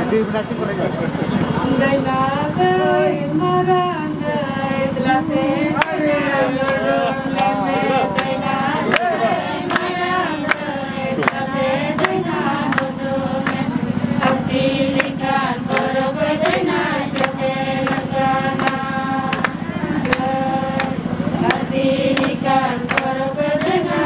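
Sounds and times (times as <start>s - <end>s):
drum beating steadily: 0.0s - 24.0s
voices singing folk song: 1.1s - 24.0s.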